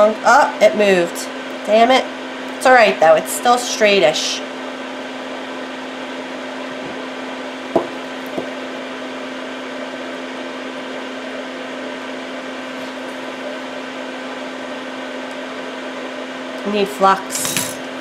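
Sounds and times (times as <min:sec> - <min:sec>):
electrical hum: 0:00.0 - 0:18.0
fan whirring: 0:00.0 - 0:18.0.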